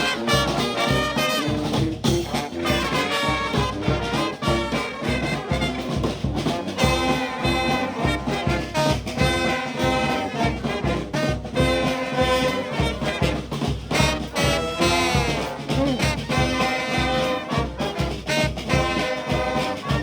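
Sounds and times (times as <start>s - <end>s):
brass band playing swing tune: 0.0s - 20.0s.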